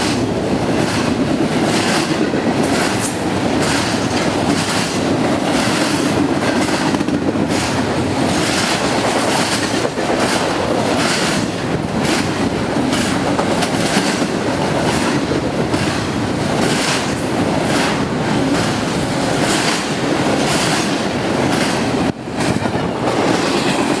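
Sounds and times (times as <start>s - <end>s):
freight train rumbling past: 0.0s - 24.0s
wheels clacking over rail joints: 0.0s - 24.0s.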